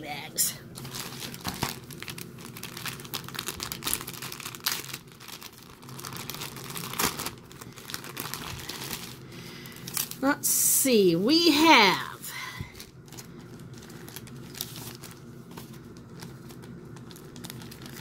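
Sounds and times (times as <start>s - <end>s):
plastic bag crinkling: 0.7s - 10.3s, 11.4s - 18.0s.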